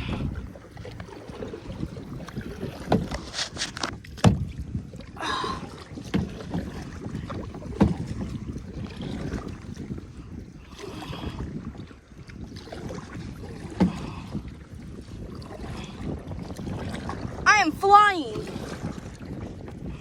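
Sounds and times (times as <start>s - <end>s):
paddle strokes splashing: 0.0s - 20.0s
wind rumble on microphone: 0.0s - 20.0s.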